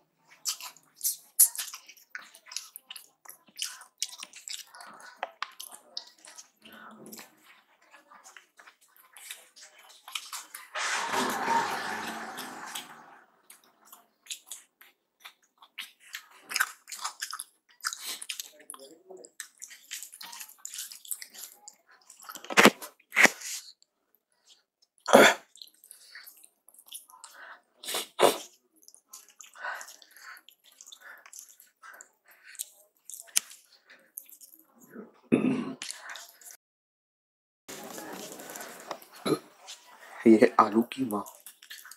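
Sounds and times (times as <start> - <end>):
chewing: 0.3 - 23.8, 24.4 - 35.0, 35.8 - 36.6, 37.7 - 40.2, 41.1 - 41.9.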